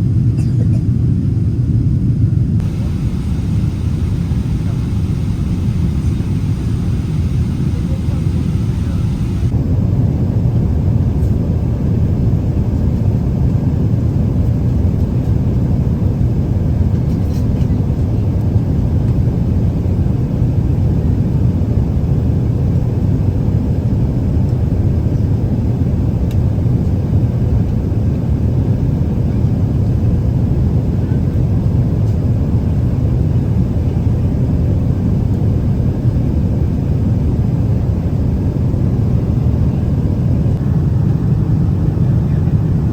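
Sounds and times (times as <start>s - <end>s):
airplane cabin engine noise: 0.0s - 42.9s.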